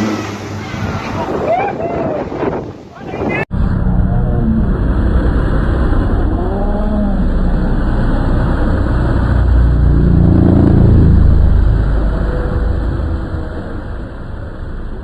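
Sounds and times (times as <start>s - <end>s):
turboprop engine and propeller: 0.0s - 15.0s.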